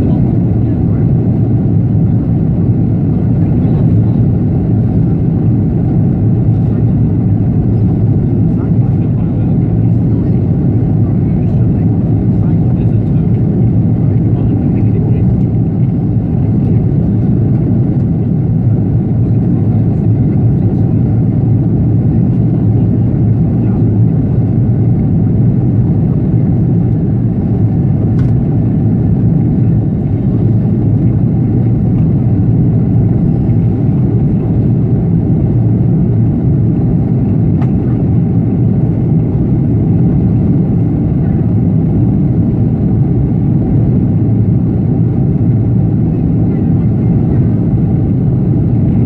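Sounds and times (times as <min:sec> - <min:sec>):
airplane cabin engine roar: 0:00.0 - 0:49.0.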